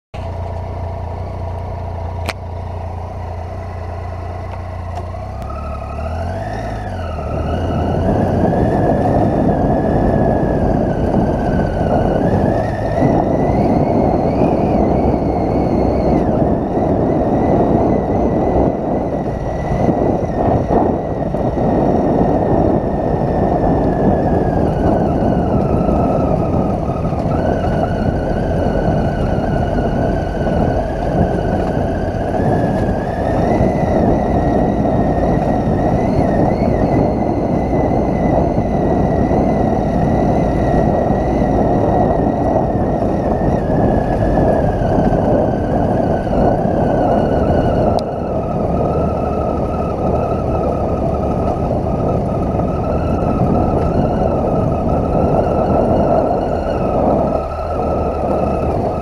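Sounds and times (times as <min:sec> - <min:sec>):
motorcycle engine: 0:00.1 - 0:59.0
tyres on stony track: 0:00.2 - 0:59.0
wind rush: 0:00.2 - 0:59.0.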